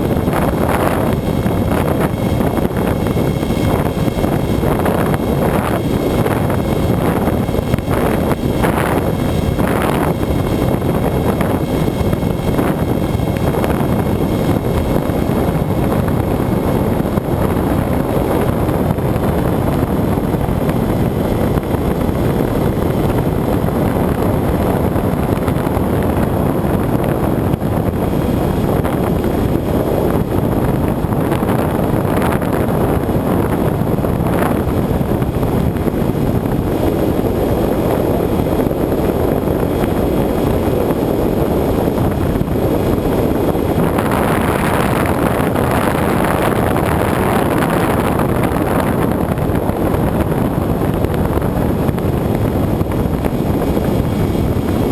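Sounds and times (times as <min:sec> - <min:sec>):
airflow rushing over microphone: 0:00.0 - 0:54.9
electric motor and propeller drone: 0:00.0 - 0:54.9.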